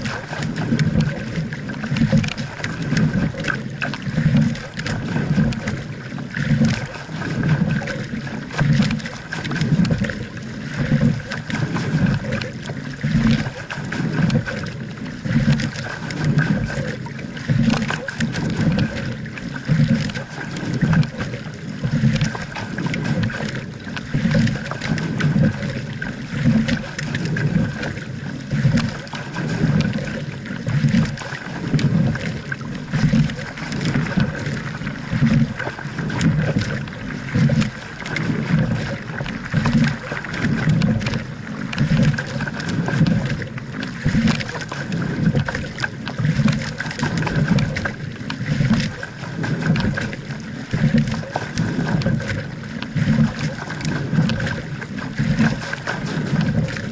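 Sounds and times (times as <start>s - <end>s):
water rushing past hull: 0.0s - 56.9s.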